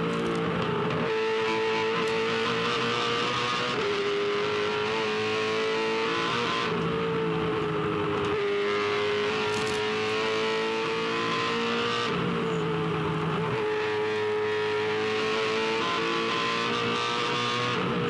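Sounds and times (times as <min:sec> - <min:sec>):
race car engine at high revs: 0:00.0 - 0:18.0
wind and tyre noise: 0:00.0 - 0:18.0.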